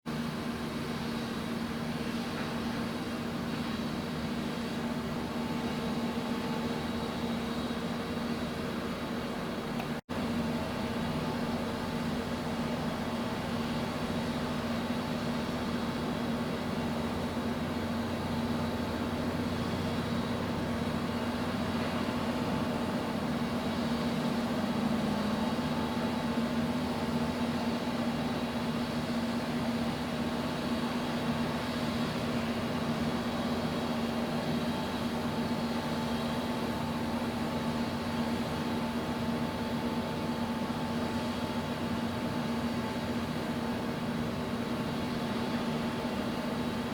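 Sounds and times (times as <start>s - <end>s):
ship engine droning: 0.1s - 46.9s.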